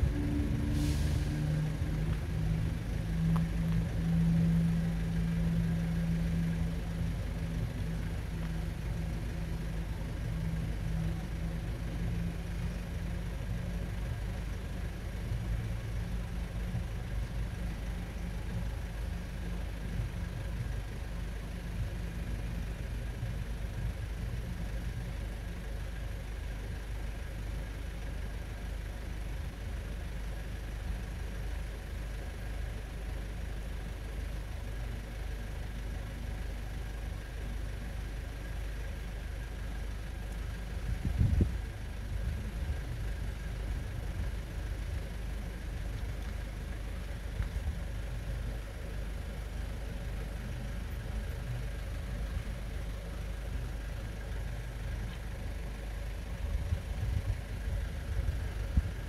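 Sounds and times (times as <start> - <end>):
constant low rumble: 0.0 - 59.0
vehicle engine running: 0.0 - 59.0.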